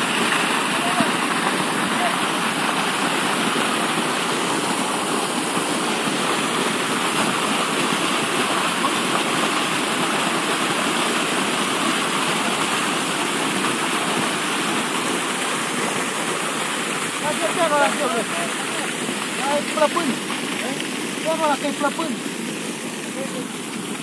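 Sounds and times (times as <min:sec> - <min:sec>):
water gushing and splashing: 0:00.0 - 0:24.0.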